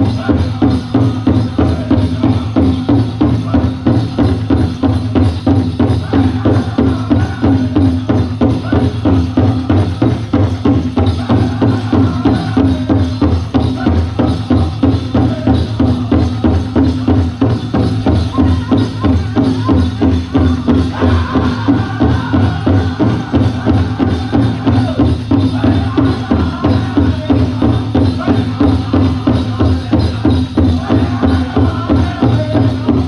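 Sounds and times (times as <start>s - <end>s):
powwow drum steady beat: 0.0s - 33.0s
singers' high voices: 0.0s - 33.0s.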